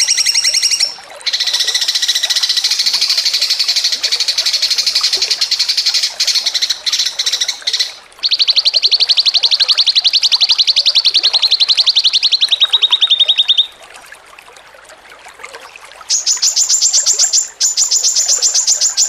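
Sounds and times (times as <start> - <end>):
evenly pulsed bird trill: 0.0 - 13.8, 16.1 - 19.0
songbird trilling: 0.0 - 13.8, 16.1 - 19.0.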